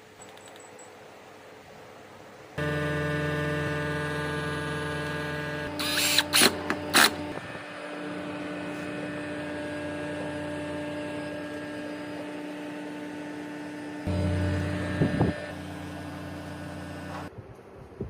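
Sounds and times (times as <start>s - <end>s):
machine hum: 2.6s - 17.3s.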